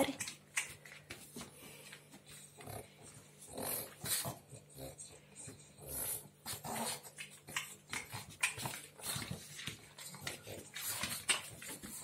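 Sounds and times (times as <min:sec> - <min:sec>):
dog sniffing and snuffling: 0:00.1 - 0:12.0.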